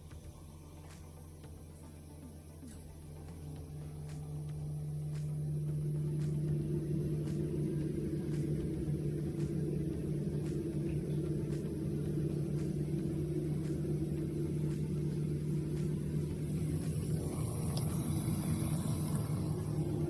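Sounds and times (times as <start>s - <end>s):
dishwasher pump humming: 0.0s - 20.0s.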